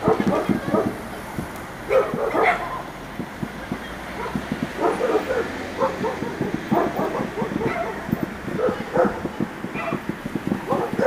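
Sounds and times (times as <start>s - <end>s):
dog barking: 0.0s - 1.0s, 1.9s - 2.9s, 4.1s - 11.0s
faint low pops: 0.1s - 2.4s, 3.0s - 5.0s, 5.9s - 11.0s.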